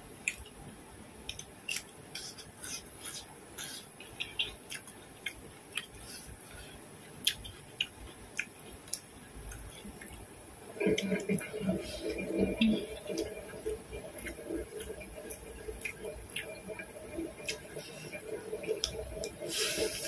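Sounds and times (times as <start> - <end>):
chewing with crisp clicks: 0.2 - 0.6, 1.2 - 10.3, 12.1 - 19.4.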